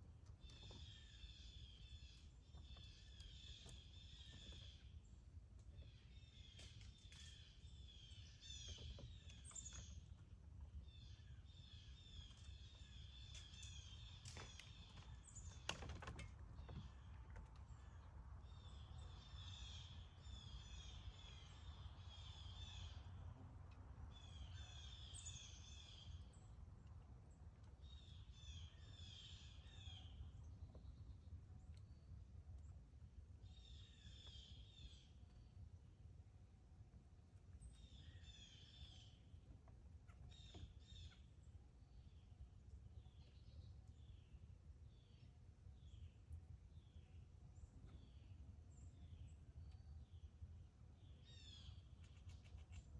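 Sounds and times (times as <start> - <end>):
small songbird chirping: 0.3 - 15.9, 16.6 - 32.8, 33.4 - 35.9, 37.4 - 52.9.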